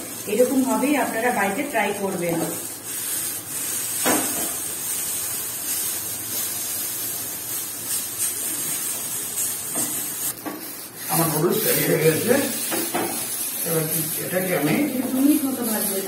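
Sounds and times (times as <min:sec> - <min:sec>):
noodles sizzling in oil: 0:00.0 - 0:16.0
wooden spatula tossing noodles: 0:00.0 - 0:16.0.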